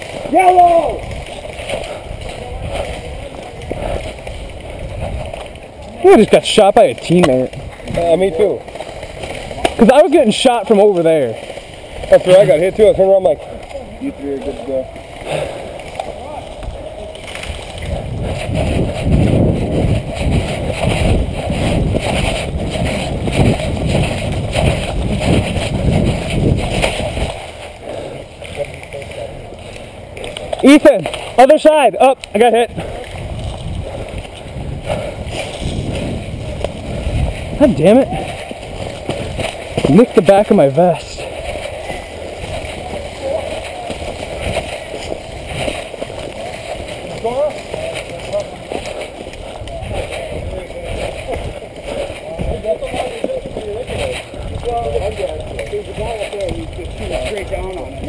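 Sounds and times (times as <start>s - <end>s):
clothing rubbing on microphone: 1.0s - 31.6s, 32.4s - 58.0s.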